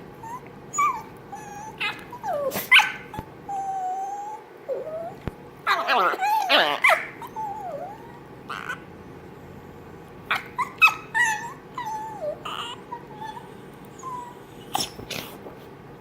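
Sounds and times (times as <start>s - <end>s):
small dogs whining: 0.0s - 15.4s
small dogs yipping: 0.2s - 8.9s, 9.6s - 15.4s.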